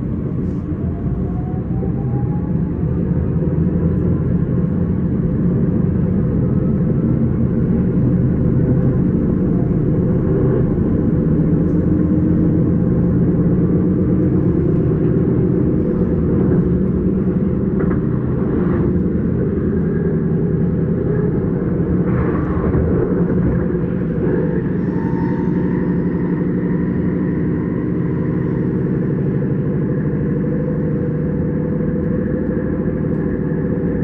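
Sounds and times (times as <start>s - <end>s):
electric train rumbling: 0.0s - 34.0s.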